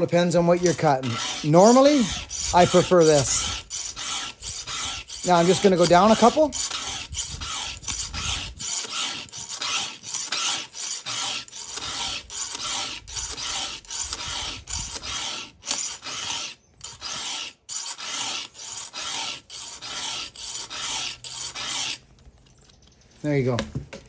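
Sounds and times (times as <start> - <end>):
file rasping on saw chain: 0.0 - 22.0.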